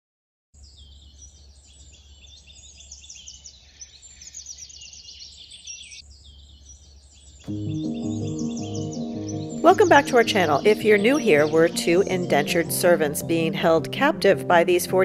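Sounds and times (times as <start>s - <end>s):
birds chirping and trilling: 0.6s - 15.0s.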